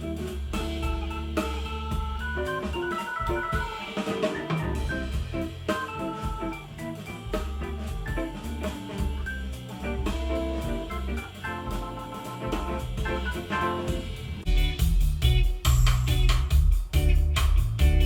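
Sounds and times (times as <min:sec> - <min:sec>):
instrumental music through speakers: 0:00.0 - 0:18.0.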